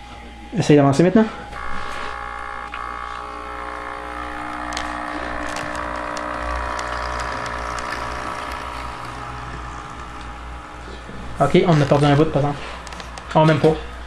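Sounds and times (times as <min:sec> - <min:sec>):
model train motor whining: 0:01.5 - 0:13.4.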